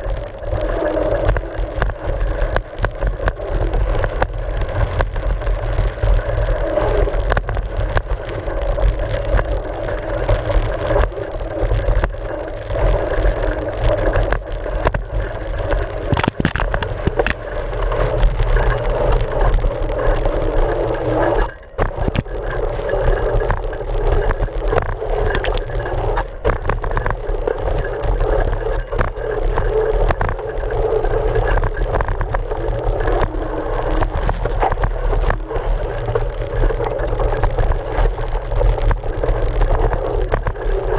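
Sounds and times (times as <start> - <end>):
bike tyre rumbling over dirt: 0.0 - 40.9.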